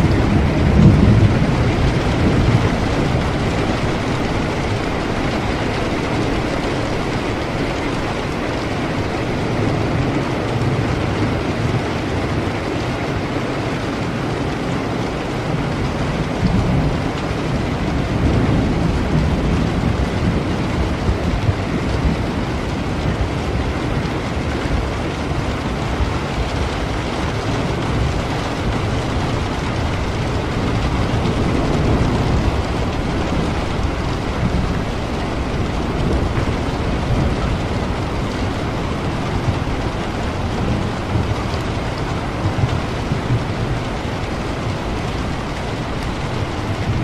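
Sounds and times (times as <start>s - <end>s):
heavy rain falling: 0.0s - 47.0s
low thunder rolls: 0.0s - 47.0s.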